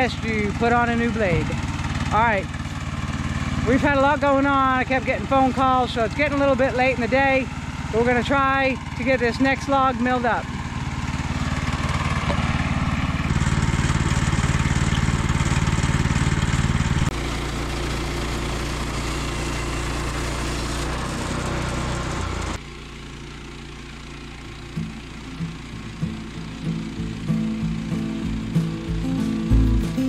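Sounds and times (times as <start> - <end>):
small gas engine droning: 0.0 - 30.0.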